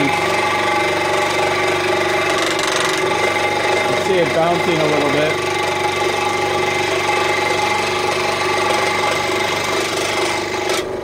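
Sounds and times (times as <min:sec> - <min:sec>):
saw blade cutting wood: 0:00.0 - 0:10.9
scroll saw running: 0:00.0 - 0:11.0.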